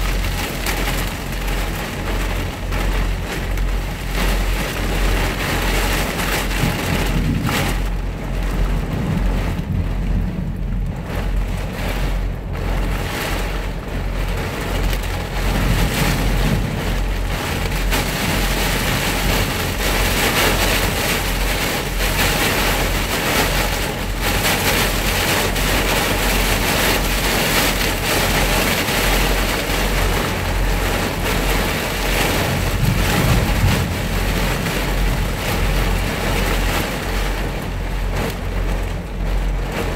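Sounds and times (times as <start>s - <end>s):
heavy rain on truck windshield: 0.0s - 39.9s
steady low hum: 0.0s - 39.9s.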